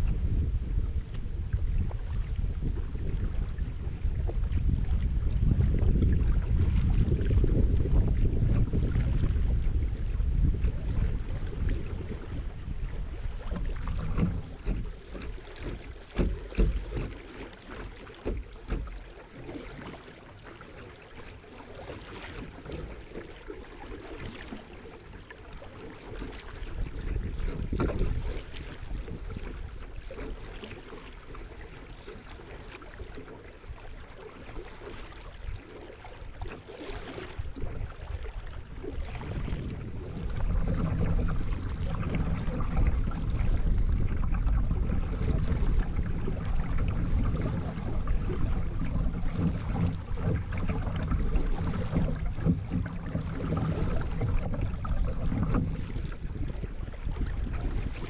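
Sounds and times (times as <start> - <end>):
water rushing and lapping: 0.0 - 58.0.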